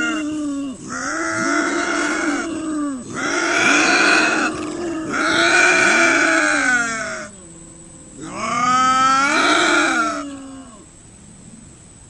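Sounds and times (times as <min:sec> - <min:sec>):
bobcats yowling: 0:00.0 - 0:11.0.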